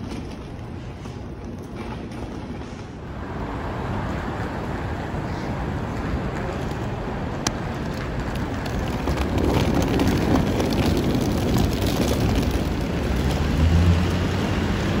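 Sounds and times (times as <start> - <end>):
suitcase wheels rattling on pavement: 0.0 - 3.0, 5.9 - 15.0
traffic noise: 0.0 - 15.0
low vehicle hum: 3.0 - 15.0.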